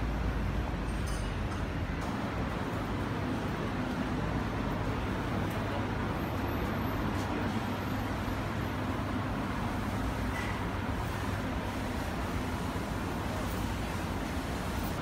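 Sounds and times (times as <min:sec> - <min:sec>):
urban street noise: 0:00.0 - 0:15.0.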